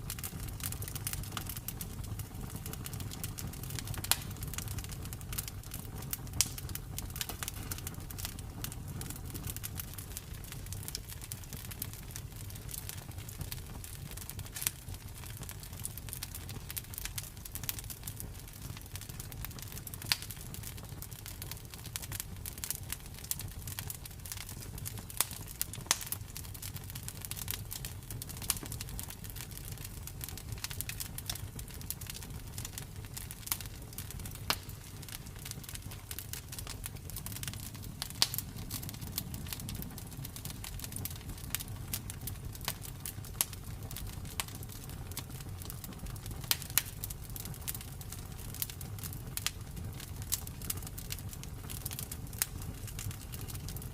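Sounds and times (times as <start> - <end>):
wood crackling and popping: 0.0 - 53.9.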